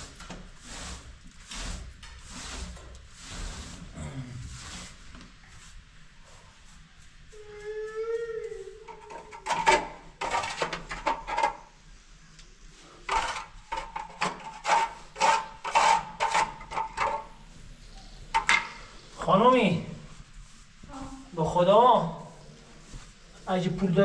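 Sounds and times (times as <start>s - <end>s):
scraping strokes on tiled floor: 0.0s - 11.8s, 12.7s - 19.2s, 22.2s - 23.6s.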